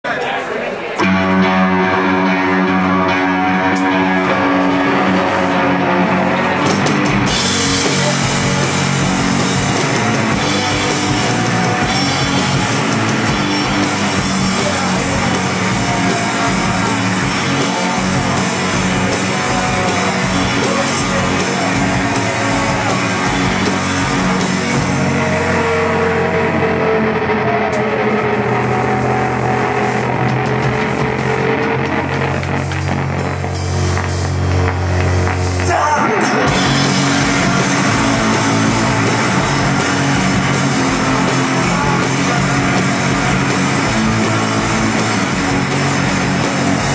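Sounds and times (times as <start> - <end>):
drum kit: 1.0 - 46.9
electric guitars ringing chords: 1.0 - 46.9.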